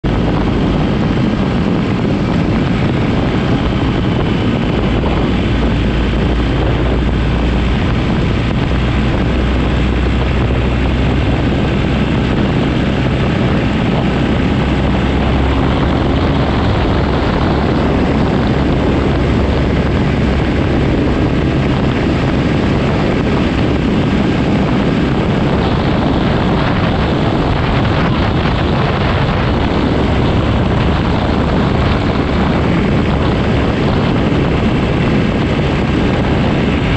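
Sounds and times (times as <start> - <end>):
motorcycle engine running: 0.0 - 36.9
wind rushing over microphone: 0.0 - 36.9.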